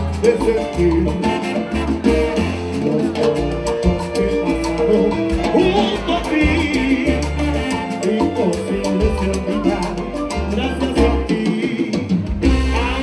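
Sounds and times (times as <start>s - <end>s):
live salsa band: 0.0s - 13.0s.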